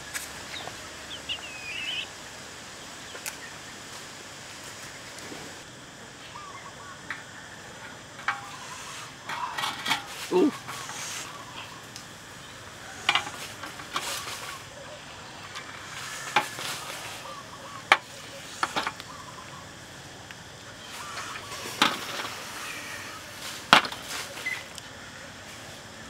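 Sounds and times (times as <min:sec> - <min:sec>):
low steady background noise: 0:00.0 - 0:26.0.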